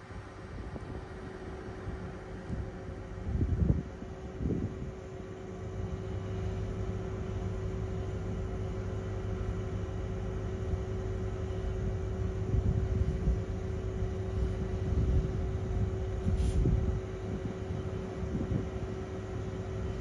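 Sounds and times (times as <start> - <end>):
steady hum: 0.0 - 20.0
train diesel engines rumbling: 0.0 - 20.0.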